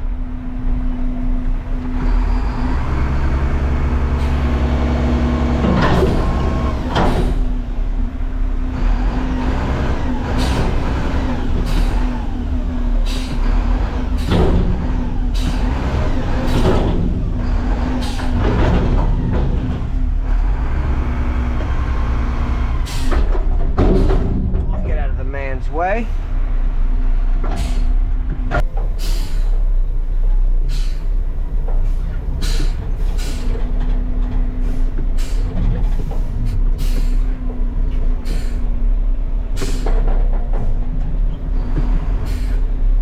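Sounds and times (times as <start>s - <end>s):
garbage truck diesel engine: 0.0s - 43.0s.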